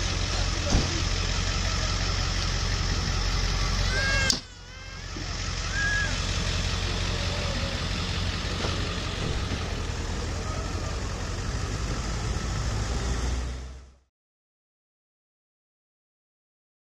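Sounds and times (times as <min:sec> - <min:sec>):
street noise: 0:00.0 - 0:14.1
vehicle engine idling: 0:00.0 - 0:14.1.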